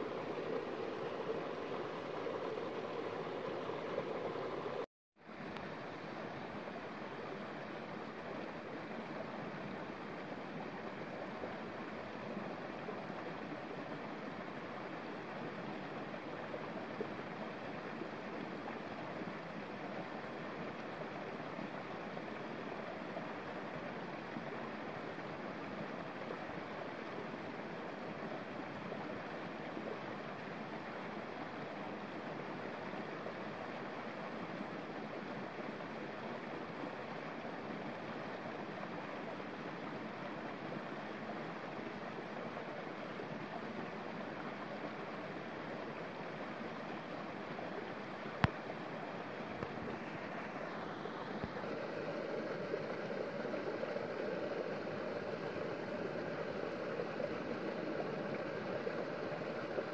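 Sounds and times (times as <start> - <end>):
water cascading over rocks: 0.0 - 59.9.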